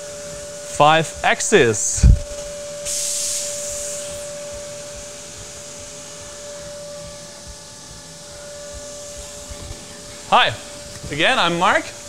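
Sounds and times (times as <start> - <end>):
airy hiss: 0.0 - 12.0
milling machine hum: 0.0 - 12.0.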